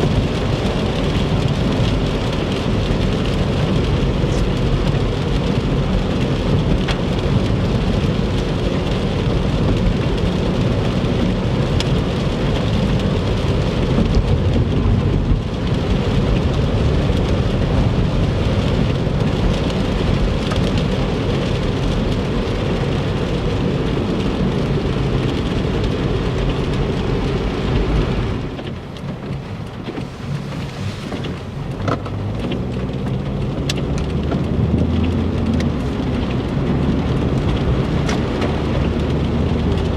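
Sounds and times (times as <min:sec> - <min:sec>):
heavy rain on a car: 0:00.0 - 0:39.9
road rumble: 0:00.0 - 0:39.9.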